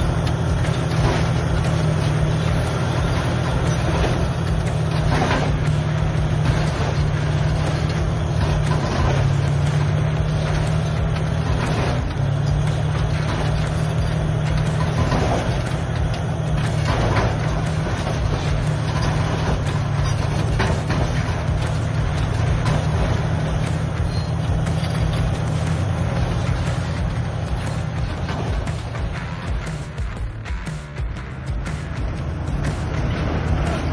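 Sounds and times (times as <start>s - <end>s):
bulldozer diesel engine under load: 0.0s - 33.9s.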